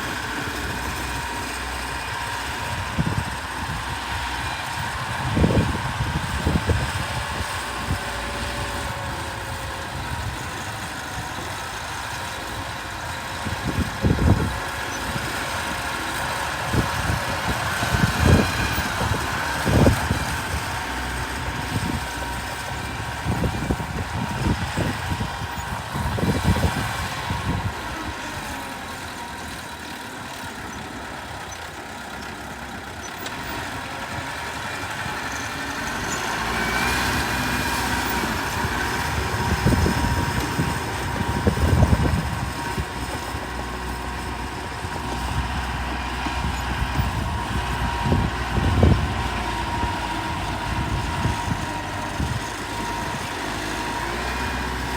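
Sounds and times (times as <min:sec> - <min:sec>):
diesel machinery engine droning: 0:00.0 - 0:54.9.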